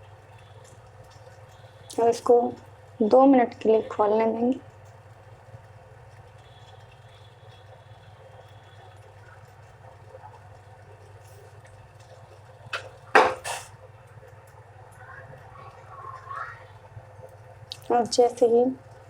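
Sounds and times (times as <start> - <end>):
saucepan simmering on gas flame: 0.0 - 19.0.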